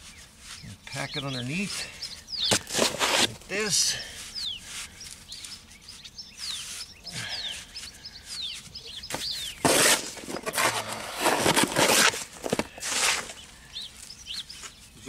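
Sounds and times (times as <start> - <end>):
mortar scraping and rustling: 0.0 - 14.8
small birds chirping: 0.0 - 15.0.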